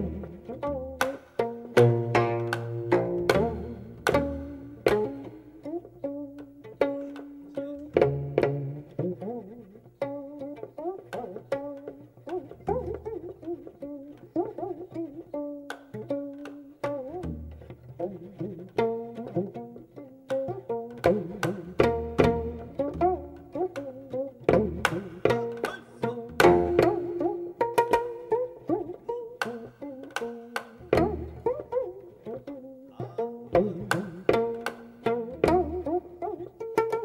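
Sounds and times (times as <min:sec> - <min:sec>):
plucked zither notes: 0:00.0 - 0:37.0.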